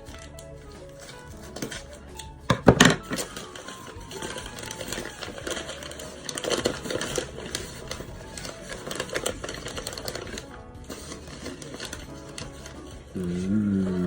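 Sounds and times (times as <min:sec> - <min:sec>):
background music: 0:00.0 - 0:14.0
paper and tape crinkling: 0:00.0 - 0:14.0.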